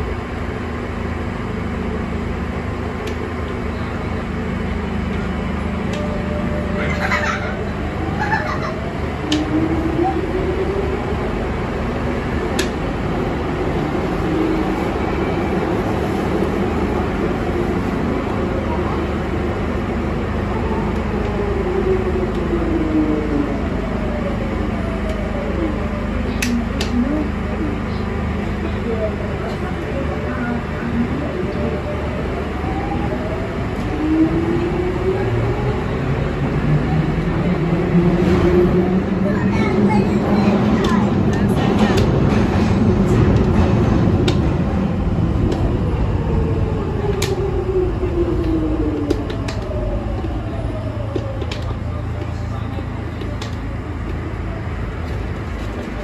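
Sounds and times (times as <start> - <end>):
train rumble and hiss: 0.0 - 56.0.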